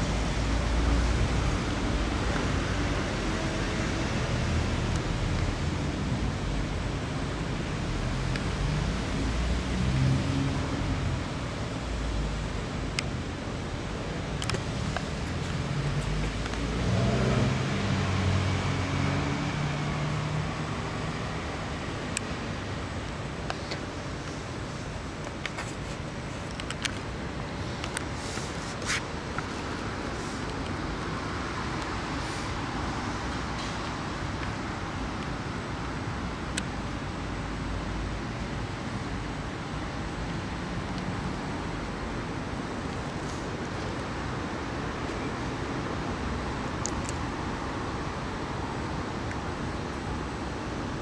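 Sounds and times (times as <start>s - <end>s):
city traffic hum: 0.0s - 51.0s.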